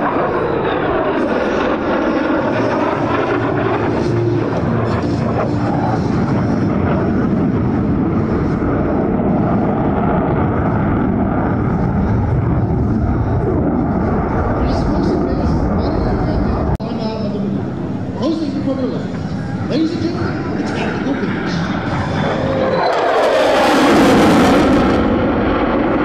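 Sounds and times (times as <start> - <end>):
jet engine flying past: 0.0 - 26.0.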